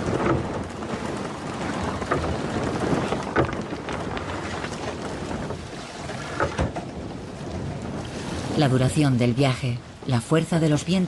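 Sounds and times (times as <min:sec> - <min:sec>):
sea: 0:00.0 - 0:11.0.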